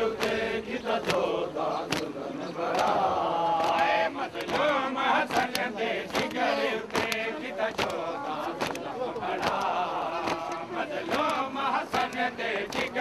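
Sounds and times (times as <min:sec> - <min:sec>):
men chanting a lament: 0:00.0 - 0:13.0
sharp slaps: 0:00.2 - 0:00.4, 0:01.0 - 0:13.0.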